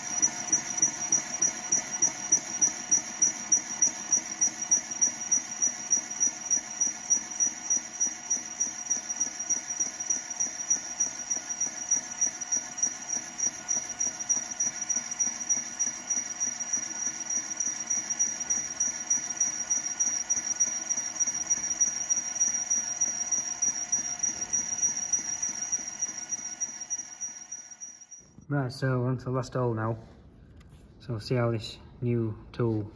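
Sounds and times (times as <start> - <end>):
boring machine high whine: 0.0 - 28.4.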